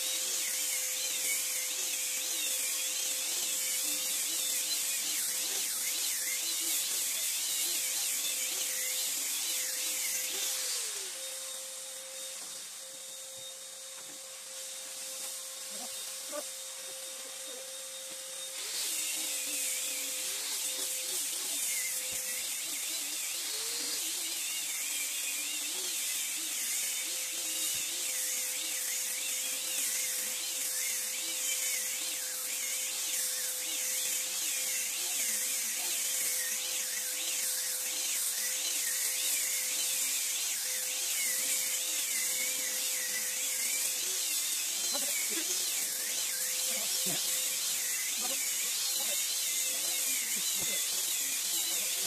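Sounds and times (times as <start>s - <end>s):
loud hiss: 0.0s - 52.0s
power sander motor whine: 0.0s - 52.0s.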